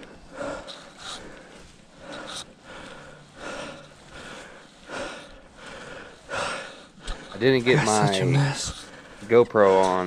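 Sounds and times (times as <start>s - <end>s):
man breathing hard: 0.0s - 10.0s.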